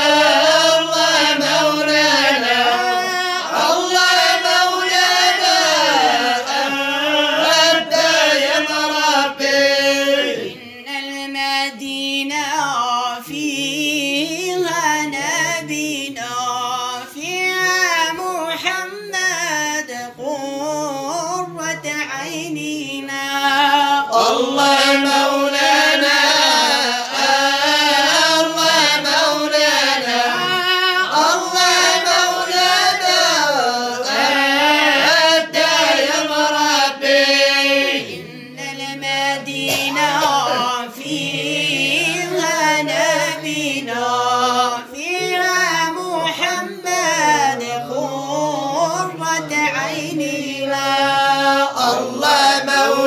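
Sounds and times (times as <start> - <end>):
person singing devotional song: 0.0 - 53.0.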